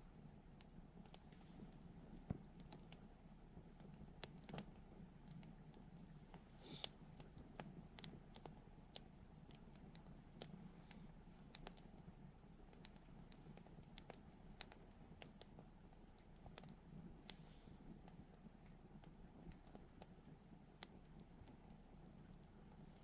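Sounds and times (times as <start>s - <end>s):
low rustle of flames: 0.0s - 23.0s
campfire crackling: 0.2s - 23.0s
sharp pops and snaps of fire: 0.5s - 23.0s.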